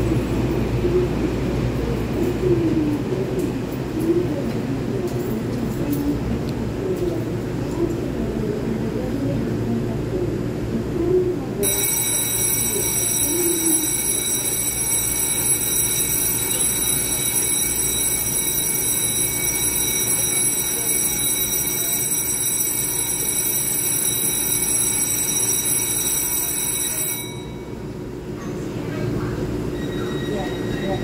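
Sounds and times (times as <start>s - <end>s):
platform departure bell ringing: 0.0s - 9.3s, 11.6s - 31.0s
electric train humming: 0.0s - 31.0s.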